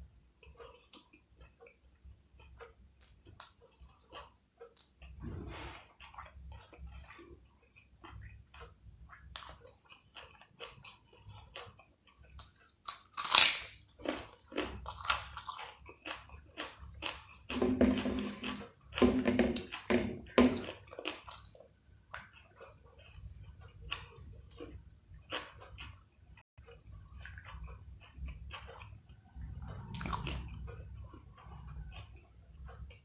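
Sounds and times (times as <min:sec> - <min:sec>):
chewing food: 0:00.0 - 0:33.0.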